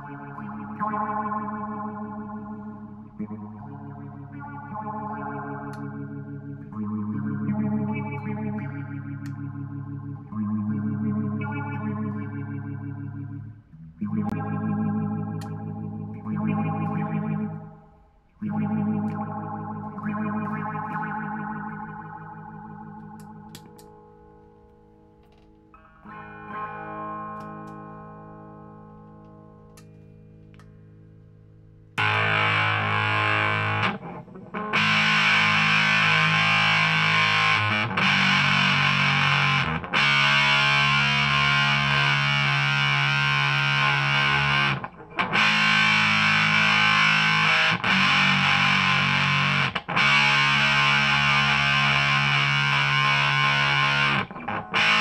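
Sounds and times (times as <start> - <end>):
loud distorted guitar chords: 0.0 - 24.2, 32.0 - 55.0
electric guitar chord ringing: 0.0 - 31.2, 32.0 - 55.0.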